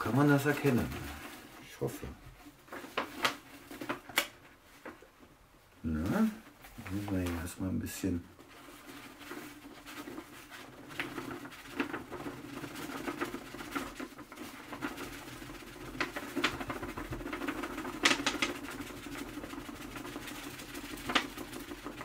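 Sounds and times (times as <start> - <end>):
paper rustling: 0.0 - 5.0, 5.9 - 22.0.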